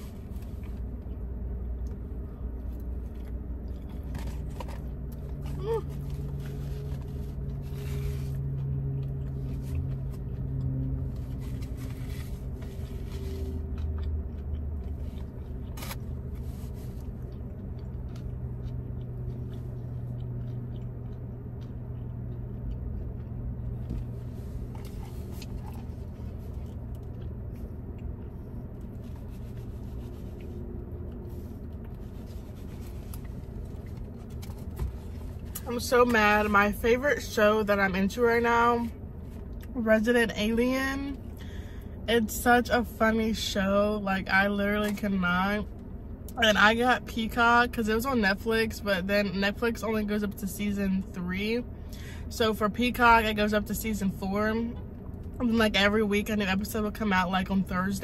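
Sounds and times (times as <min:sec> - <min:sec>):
car engine humming: 0:00.0 - 0:58.0.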